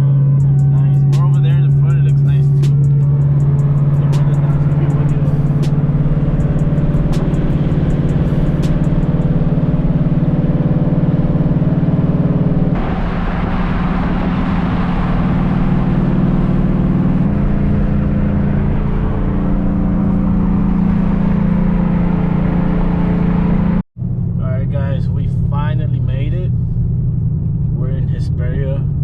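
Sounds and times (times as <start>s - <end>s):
car engine droning: 0.0s - 29.0s
road and wind noise: 0.0s - 29.0s.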